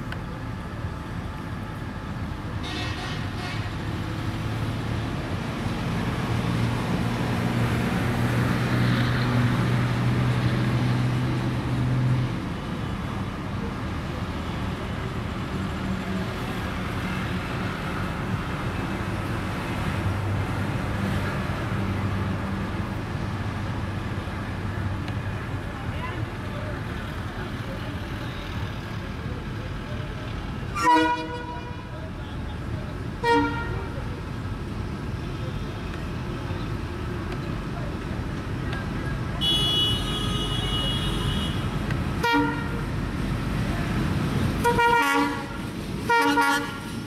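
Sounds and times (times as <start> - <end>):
locomotive engine humming: 0.0 - 47.0
road traffic: 0.0 - 47.0.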